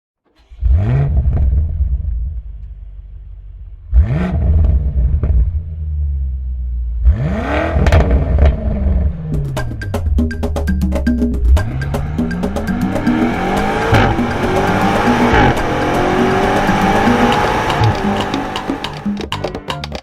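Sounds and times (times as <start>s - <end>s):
car engine revving: 0.4s - 19.2s.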